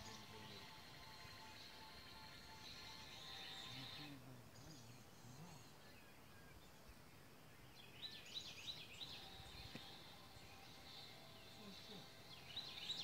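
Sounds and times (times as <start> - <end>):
bird chirping: 0.0 - 13.0
faint background noise: 0.0 - 13.0.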